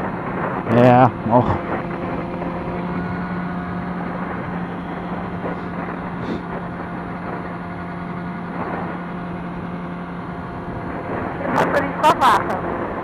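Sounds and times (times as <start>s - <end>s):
motorcycle engine humming: 0.0s - 13.0s
road noise: 0.0s - 13.0s
wind noise: 0.0s - 13.0s.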